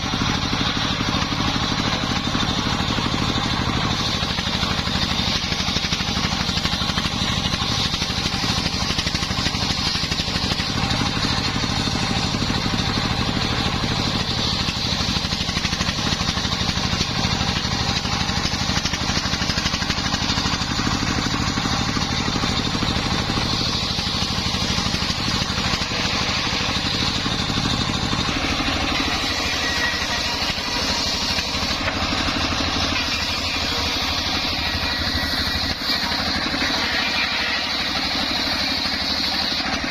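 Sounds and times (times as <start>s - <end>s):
circular saw motor drone: 0.0s - 39.9s.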